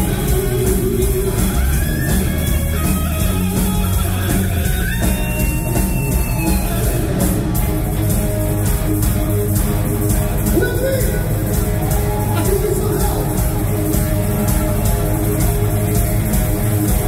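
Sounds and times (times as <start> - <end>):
bass guitar: 0.0 - 17.0
driving drum beat: 0.0 - 17.0
lead electric guitar: 0.0 - 17.0.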